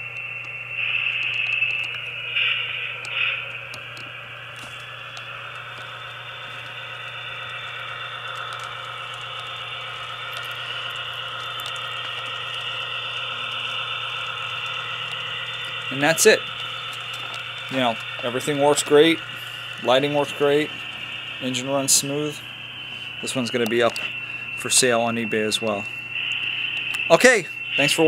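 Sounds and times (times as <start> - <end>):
tinny diesel engine drone: 0.0 - 28.0
tinny locomotive horn blasts: 0.7 - 28.0.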